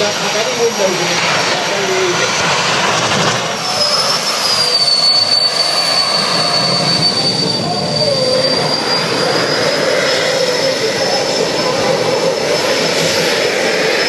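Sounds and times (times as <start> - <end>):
jet turbine roaring with high whine: 0.0 - 14.0.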